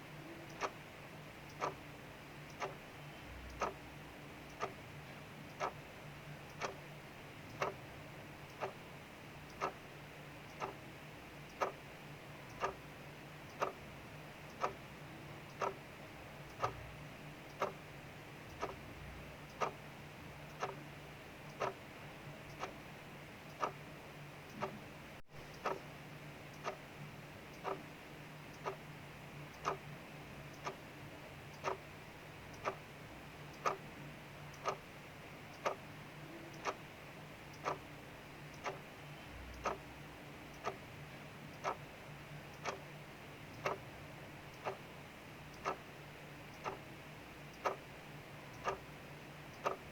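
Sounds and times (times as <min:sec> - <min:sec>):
clock ticking: 0:00.3 - 0:49.9.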